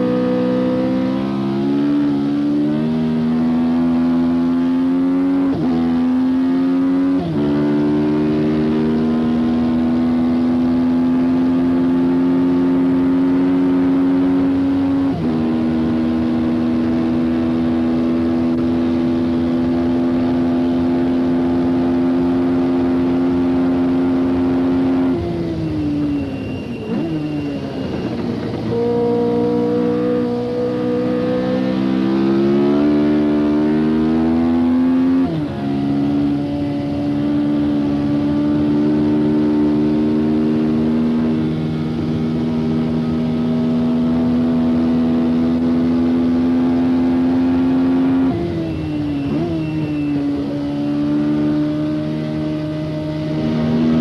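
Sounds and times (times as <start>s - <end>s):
racing car engine at full throttle: 0.0s - 54.0s.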